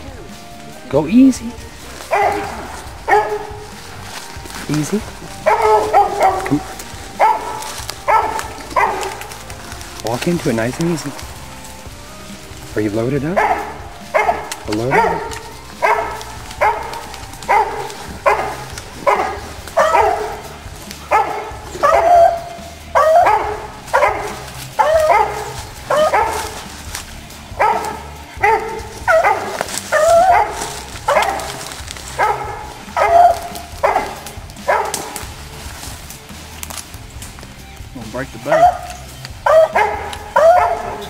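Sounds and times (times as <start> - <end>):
dog baying: 1.6 - 36.1, 38.4 - 41.0.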